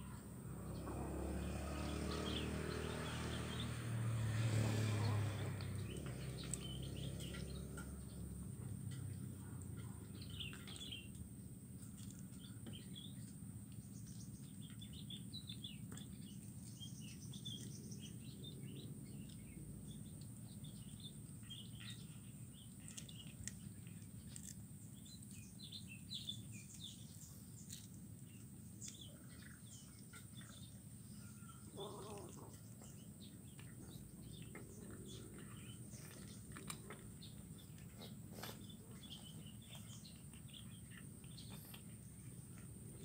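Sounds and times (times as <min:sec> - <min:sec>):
small birds chirping: 0:00.0 - 0:43.0
cats chewing fish bones: 0:05.2 - 0:43.0.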